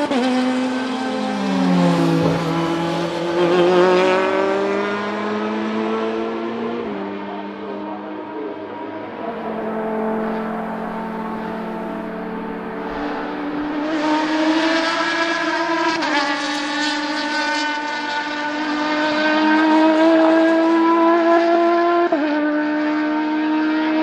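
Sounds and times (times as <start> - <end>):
race car accelerating past: 0.0 - 24.0.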